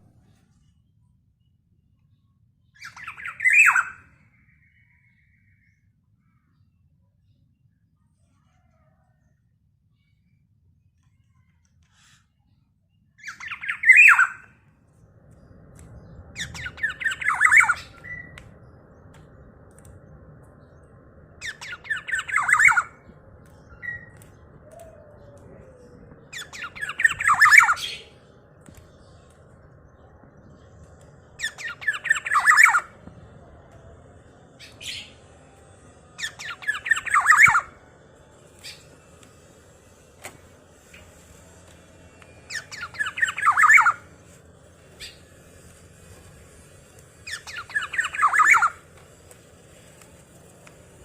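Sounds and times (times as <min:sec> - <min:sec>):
low background hum: 0:00.0 - 0:51.0.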